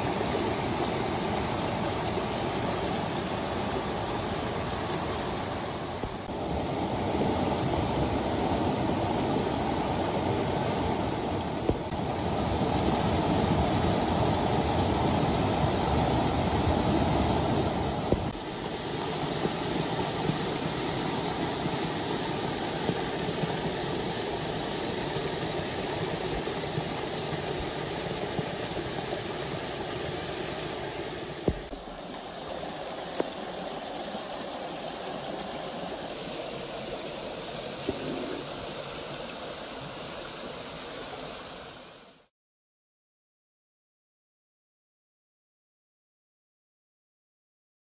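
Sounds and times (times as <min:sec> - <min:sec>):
rushing floodwater: 0:00.0 - 0:42.3.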